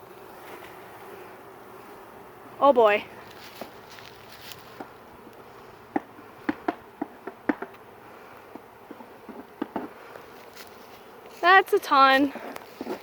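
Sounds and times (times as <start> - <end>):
bee flying close past: 0.0 - 13.0
swarm of bees buzzing: 0.0 - 13.0.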